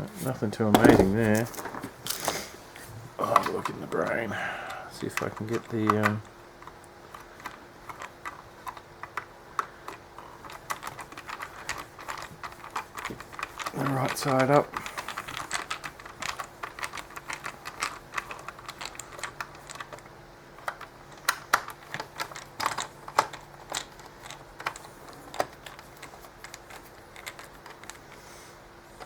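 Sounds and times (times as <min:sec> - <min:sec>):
faint steady hum: 0:00.0 - 0:29.0
plastic parts clicking and tapping: 0:00.7 - 0:02.3, 0:05.0 - 0:28.2.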